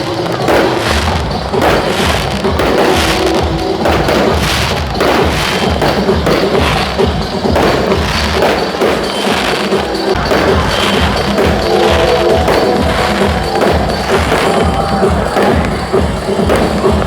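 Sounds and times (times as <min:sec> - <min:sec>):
fireworks bursting: 0:00.0 - 0:17.0
music playing: 0:00.0 - 0:17.0.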